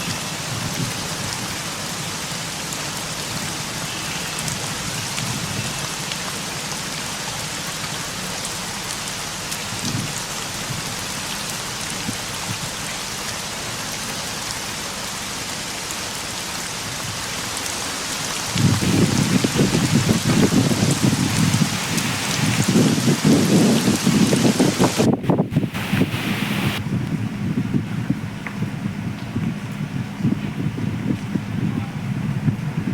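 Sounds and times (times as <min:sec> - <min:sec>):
heavy rain hissing: 0:00.0 - 0:26.8.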